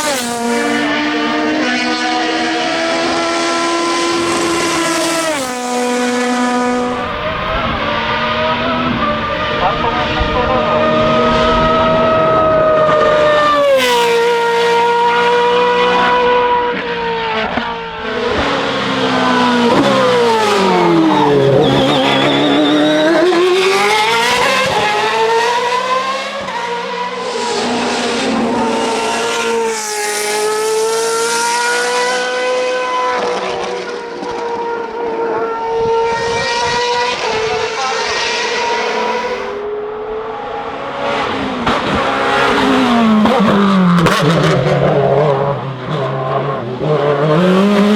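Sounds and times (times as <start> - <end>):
race car engine at high revs: 0.0 - 47.9.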